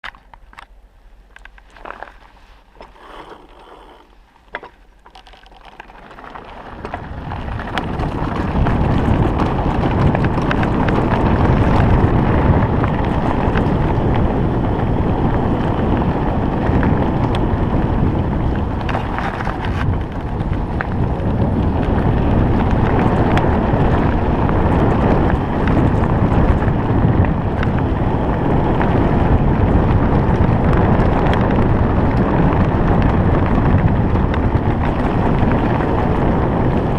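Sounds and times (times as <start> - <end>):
wind buffeting microphone: 1.3 - 36.9
tyre rumble: 1.5 - 36.9.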